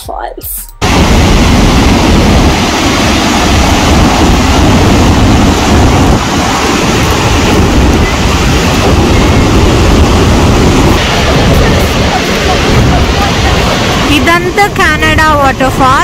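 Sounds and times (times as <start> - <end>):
waterfall rushing: 0.8 - 16.0
wind buffeting microphone: 0.8 - 16.0.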